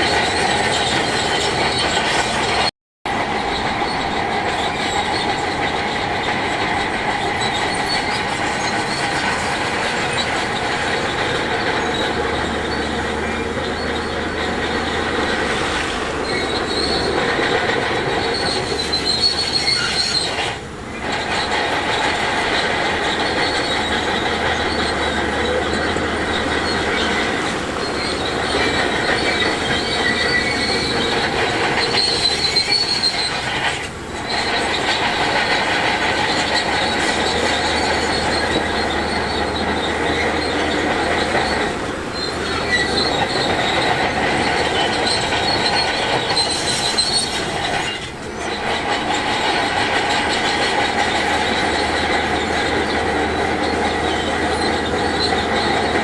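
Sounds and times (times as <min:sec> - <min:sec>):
heavy machinery engine: 0:00.0 - 0:56.0
metallic track squealing: 0:00.0 - 0:56.0.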